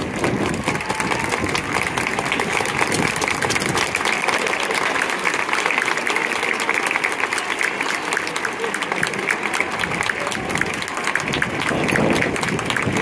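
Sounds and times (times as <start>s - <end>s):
stadium crowd applauding: 0.0s - 13.0s.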